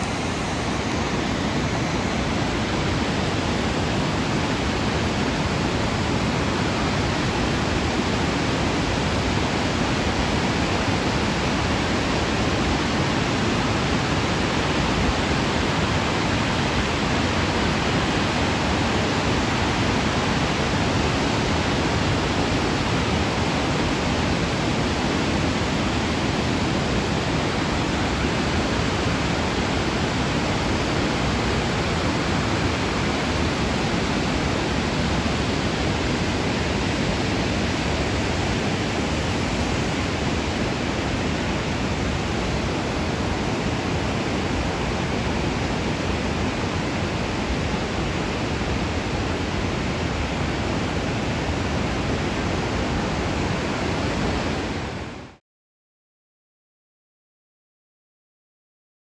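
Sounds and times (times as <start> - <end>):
waterfall rushing: 0.0 - 55.4.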